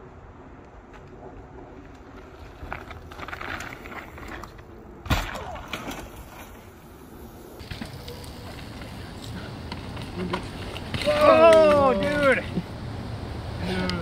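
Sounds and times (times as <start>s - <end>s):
bike tyres crunching on dirt: 0.9s - 14.0s.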